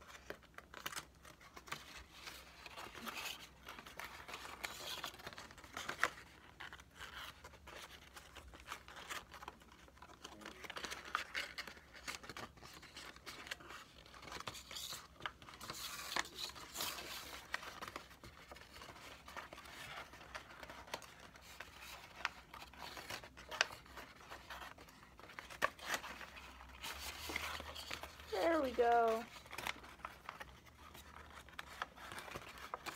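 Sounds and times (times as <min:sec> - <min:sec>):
paper crinkling and rustling: 0:00.0 - 0:32.9.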